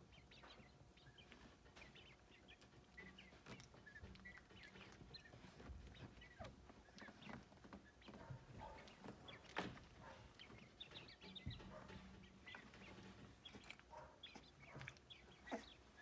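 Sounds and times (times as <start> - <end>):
quail chicks chirping: 0.0 - 16.0.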